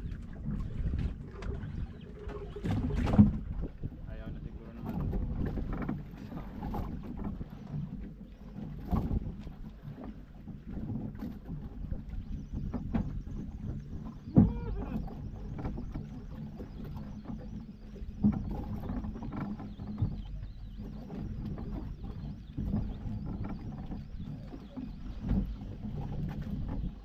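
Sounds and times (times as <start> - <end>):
boat engine rumble: 0.0 - 27.0.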